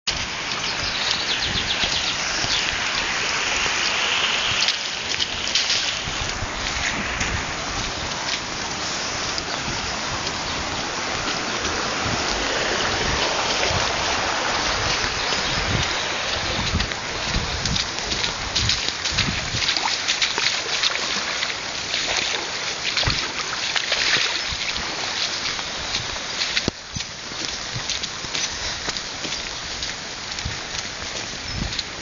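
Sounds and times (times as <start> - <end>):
river rushing: 0.1 - 32.0
wind buffeting microphone: 0.1 - 32.0.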